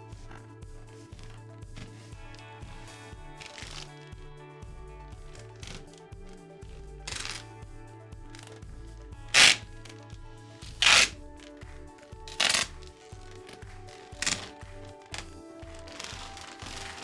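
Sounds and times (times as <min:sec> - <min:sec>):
background music sustained notes: 0:00.0 - 0:17.0.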